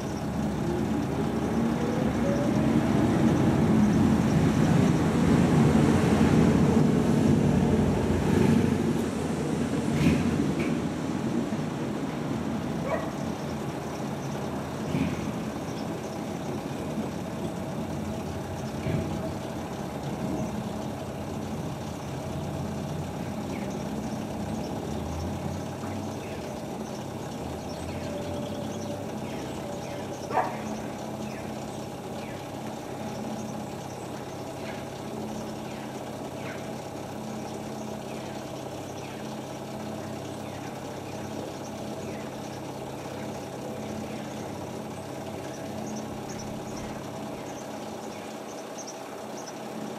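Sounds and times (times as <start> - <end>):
washing machine motor hum: 0.0 - 49.9.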